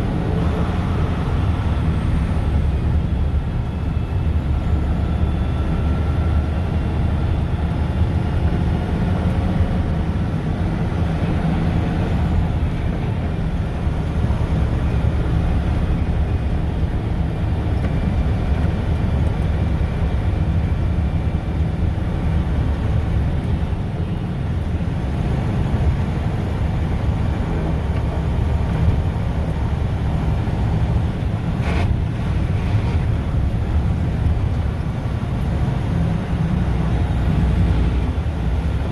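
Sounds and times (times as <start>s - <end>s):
road noise: 0.0s - 38.9s
truck diesel engine running: 0.0s - 38.9s.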